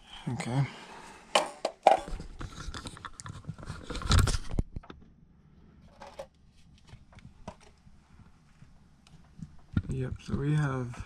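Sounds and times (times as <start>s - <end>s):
handling rustling and scraping: 1.2s - 4.9s, 5.7s - 10.9s.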